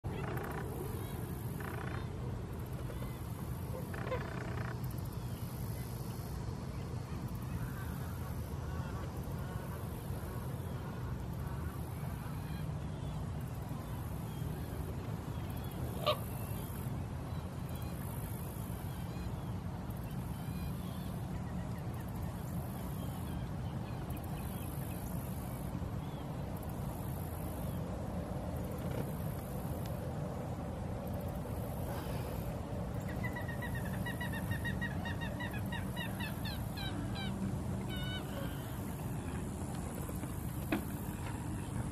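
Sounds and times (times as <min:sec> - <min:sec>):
distant bird calls: 0:00.1 - 0:06.2, 0:07.2 - 0:27.8, 0:31.0 - 0:41.9.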